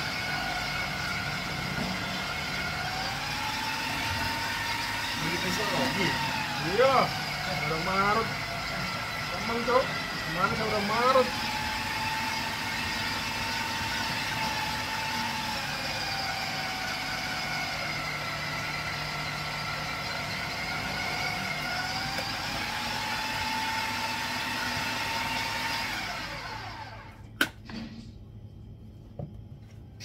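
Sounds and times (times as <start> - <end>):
electric grater motor whine: 0.0 - 27.2.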